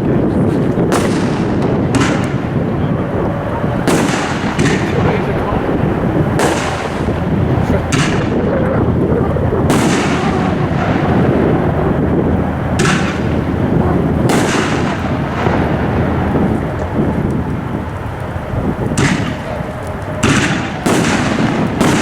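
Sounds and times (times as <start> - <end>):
rumble of firework bursts: 0.0 - 22.0
sharp firework reports: 0.0 - 22.0.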